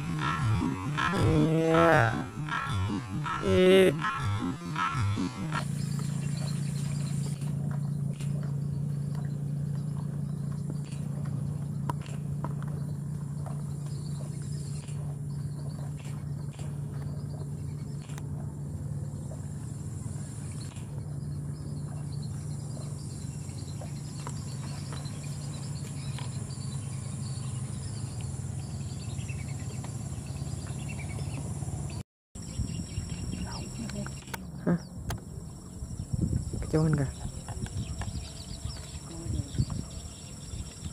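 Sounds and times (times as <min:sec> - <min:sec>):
insects chirring: 0:00.0 - 0:40.9
steady low hum: 0:00.0 - 0:40.9.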